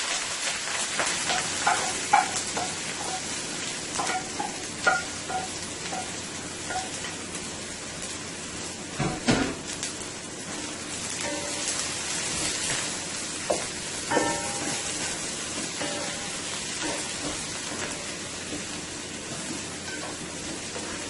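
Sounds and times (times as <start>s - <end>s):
seasoning sizzling in hot oil: 0.0s - 21.0s.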